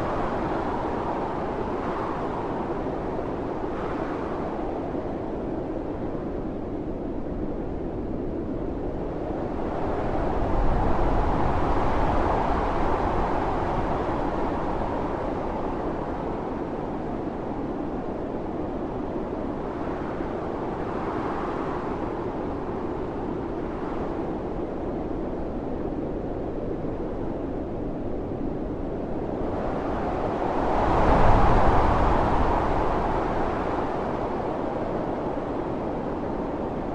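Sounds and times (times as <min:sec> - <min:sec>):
blizzard wind howling in gusts: 0:00.0 - 0:36.9.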